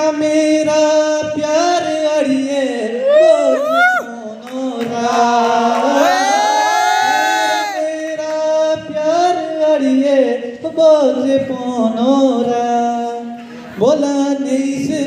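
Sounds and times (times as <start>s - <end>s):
folk song over speakers: 0.0s - 15.0s.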